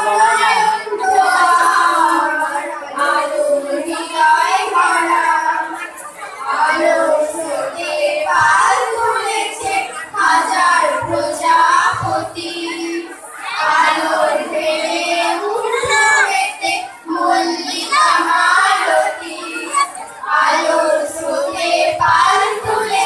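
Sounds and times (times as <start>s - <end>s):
girls singing through pa: 0.0s - 23.0s.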